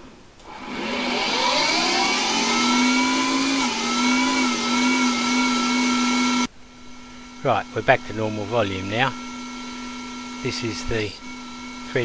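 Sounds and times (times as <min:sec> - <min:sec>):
lathe spindle whine: 0:00.4 - 0:12.0.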